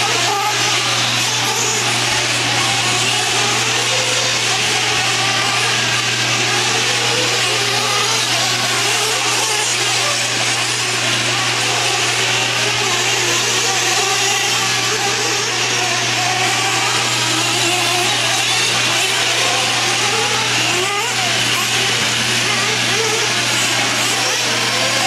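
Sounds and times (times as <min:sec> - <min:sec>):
model car engines buzzing: 0:00.0 - 0:25.0.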